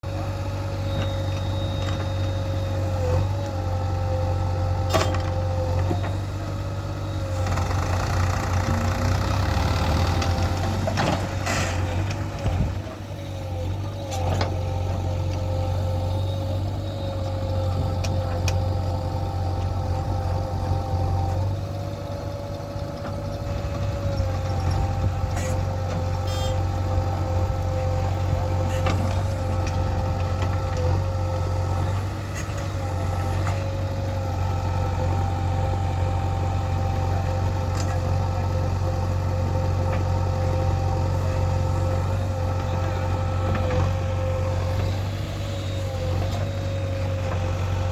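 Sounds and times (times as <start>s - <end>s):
diesel engine droning: 0.0s - 47.9s.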